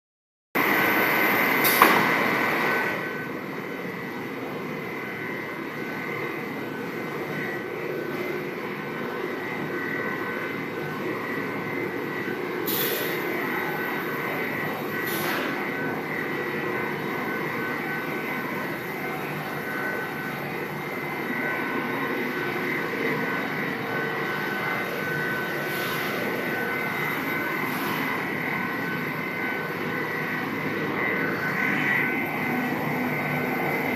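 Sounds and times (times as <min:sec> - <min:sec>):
mechanical hum: 0:00.6 - 0:33.9
thin high whine: 0:00.6 - 0:33.9.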